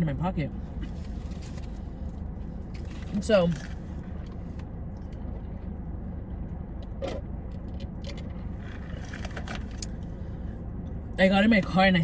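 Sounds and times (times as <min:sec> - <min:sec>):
low hum inside a car: 0:00.0 - 0:12.0.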